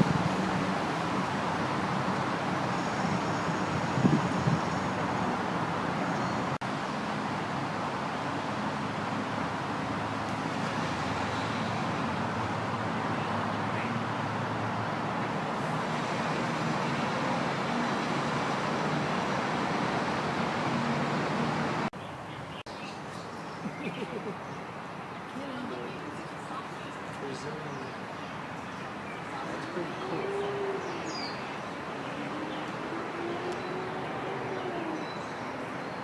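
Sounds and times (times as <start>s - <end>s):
road traffic rushing: 0.0s - 22.0s, 23.4s - 36.0s.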